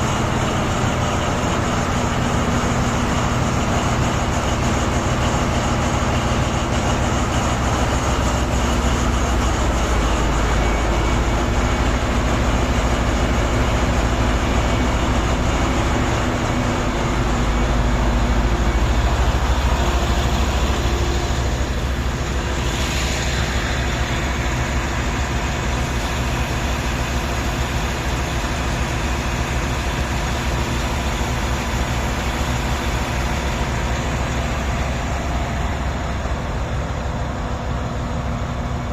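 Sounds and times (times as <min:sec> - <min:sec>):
large diesel engine rumbling: 0:00.0 - 0:38.9.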